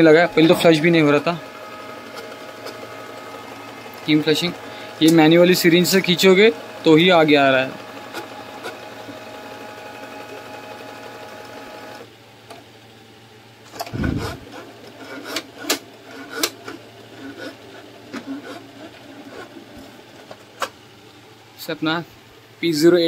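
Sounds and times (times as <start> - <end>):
printer motor whining: 0.0 - 12.1, 13.7 - 20.8.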